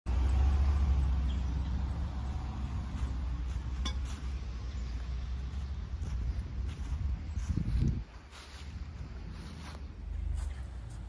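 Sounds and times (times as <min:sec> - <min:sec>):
low outdoor rumble: 0:00.1 - 0:11.0.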